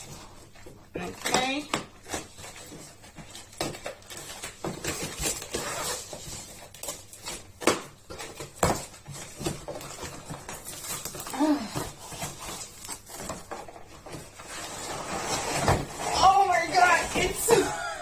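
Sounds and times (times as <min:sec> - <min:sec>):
packing crinkling and rustling: 0:00.0 - 0:18.0.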